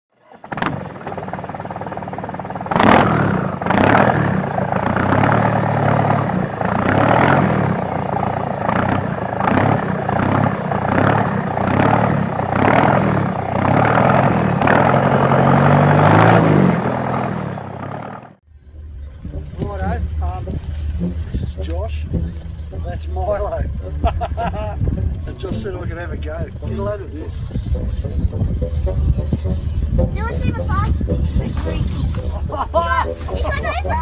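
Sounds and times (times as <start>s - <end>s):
vehicle engine revving: 0.3s - 18.5s, 19.1s - 34.0s.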